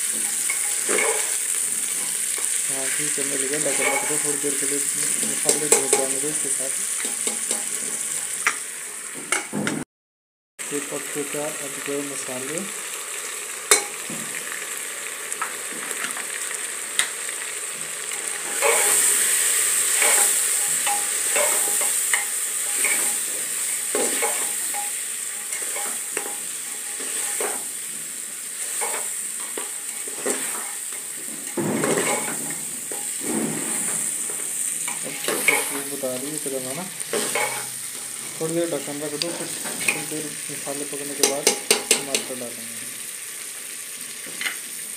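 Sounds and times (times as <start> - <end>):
meat sizzling in hot oil: 0.0 - 9.5, 10.6 - 44.9.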